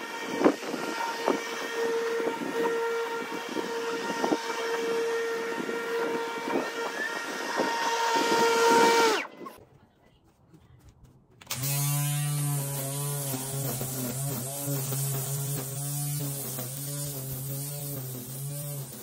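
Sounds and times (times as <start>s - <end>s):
mower blade spinning down: 0.0s - 9.3s, 11.4s - 19.0s
electric lawn mower whining: 0.0s - 9.6s, 11.4s - 19.0s.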